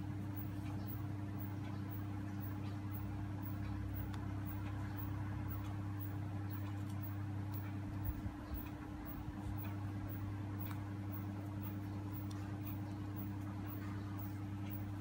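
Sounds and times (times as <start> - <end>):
steady low hum: 0.0 - 15.0
faint light ticks: 0.2 - 15.0.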